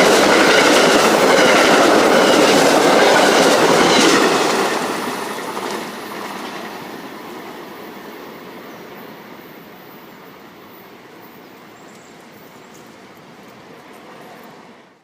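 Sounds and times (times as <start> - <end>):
train wheels rumbling on rails: 0.0 - 10.7, 11.9 - 15.0.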